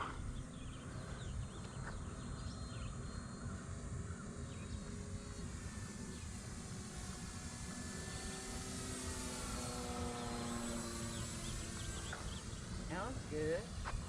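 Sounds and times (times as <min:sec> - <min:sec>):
distant model plane motor whine: 0:00.0 - 0:14.0
small birds chirping: 0:00.0 - 0:14.0.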